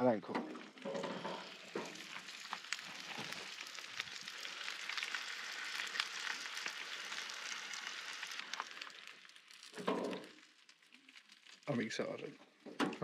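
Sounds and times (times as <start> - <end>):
meat sizzling with spitting fat: 0.0 - 12.2.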